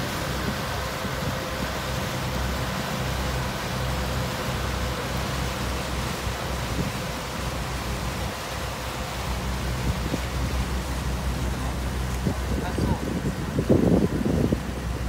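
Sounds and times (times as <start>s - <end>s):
churning wake rushing: 0.0s - 15.0s
low engine drone: 0.0s - 15.0s.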